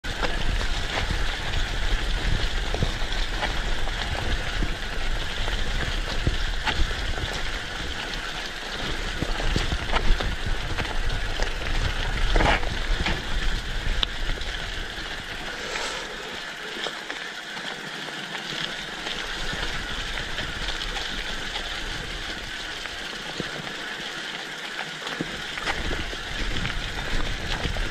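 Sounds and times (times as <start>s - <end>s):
wind rumble on microphone: 0.0s - 16.7s, 19.2s - 23.0s, 25.6s - 27.9s.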